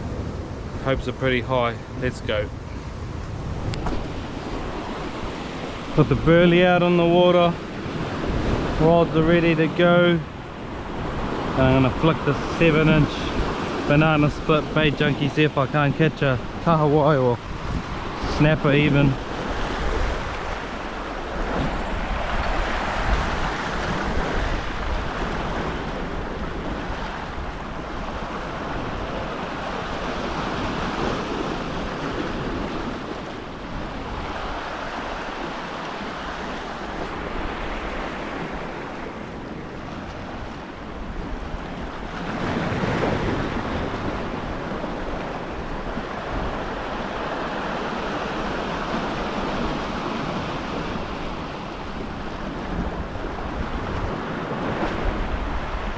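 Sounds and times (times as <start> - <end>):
wind buffeting microphone: 1.8 - 55.9
sea waves breaking on rocks: 2.3 - 55.9.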